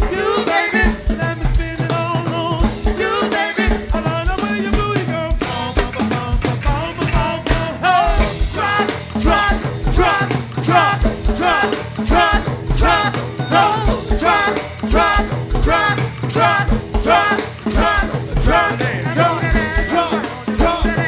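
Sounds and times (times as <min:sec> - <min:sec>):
steady drum beat: 0:00.0 - 0:21.0.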